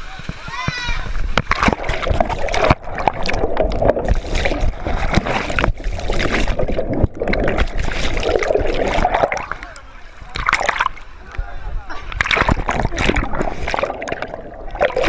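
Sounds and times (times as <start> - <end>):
water rushing and bubbling: 0.0 - 15.0
sharp knocks and splashes: 0.2 - 11.0, 12.1 - 15.0.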